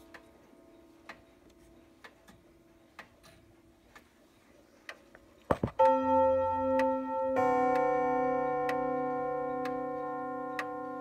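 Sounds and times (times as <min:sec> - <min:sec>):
low clock chime: 0:00.0 - 0:04.8, 0:05.7 - 0:11.0
clock ticking: 0:00.0 - 0:11.0.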